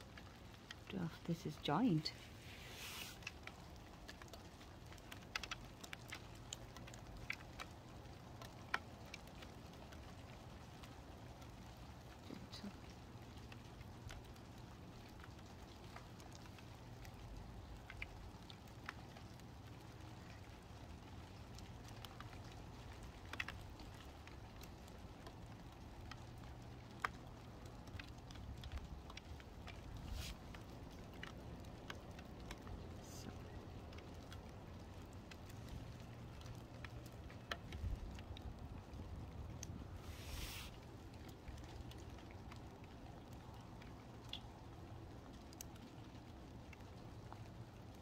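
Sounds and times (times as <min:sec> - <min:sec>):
raindrops ticking on surfaces: 0:00.0 - 0:48.0.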